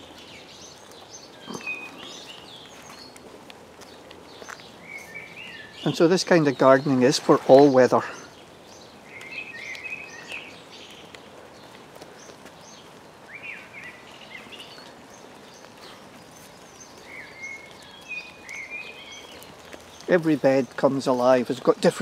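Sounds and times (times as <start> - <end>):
light rain hiss: 0.0 - 22.0
songbirds chirping: 0.0 - 22.0.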